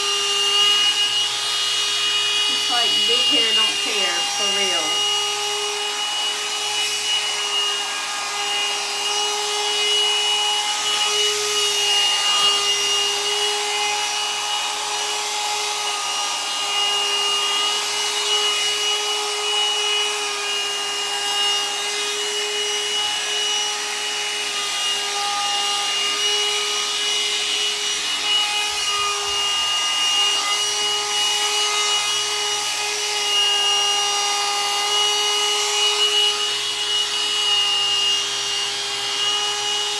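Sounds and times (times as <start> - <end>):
hot-air dryer brush running: 0.0 - 39.9.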